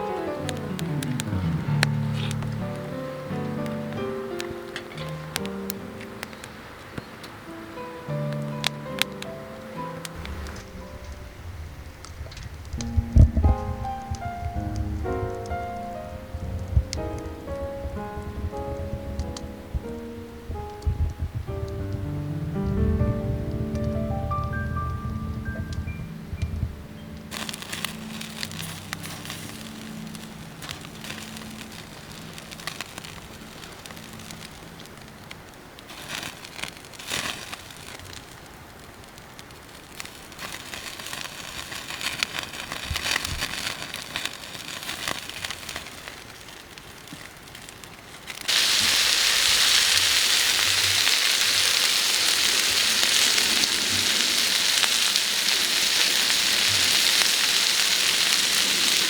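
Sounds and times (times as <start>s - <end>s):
loud steady sizzling hiss: 0.0s - 59.0s
wood fire crackling and popping: 0.0s - 59.0s.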